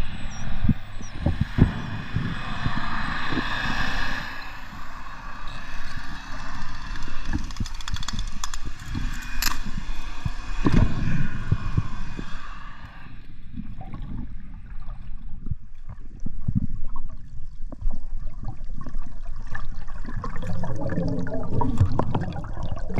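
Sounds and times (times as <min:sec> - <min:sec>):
underwater bubbling and gurgling: 0:00.0 - 0:22.9.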